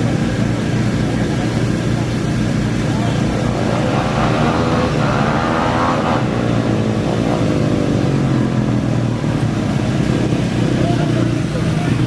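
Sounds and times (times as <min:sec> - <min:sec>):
racing engine revving: 0:00.0 - 0:12.0.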